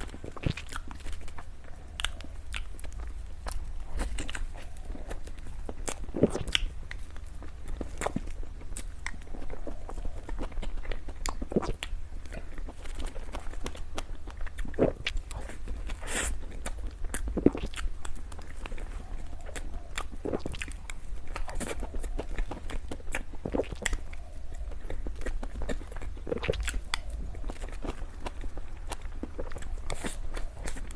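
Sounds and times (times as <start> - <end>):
person chewing crunchy food: 0.0 - 30.9.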